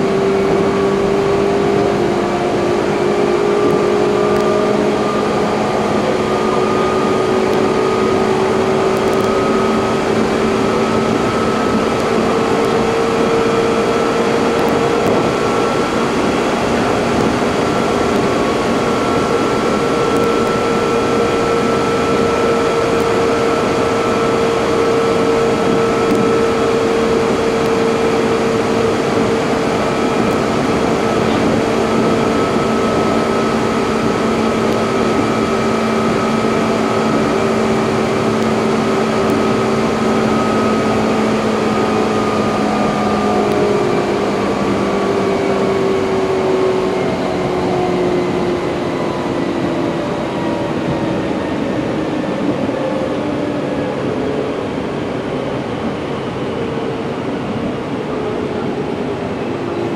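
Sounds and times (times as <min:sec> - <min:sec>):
train motor and gear whine: 0:00.0 - 0:59.9
train wheels rumbling on rail: 0:00.0 - 0:59.9.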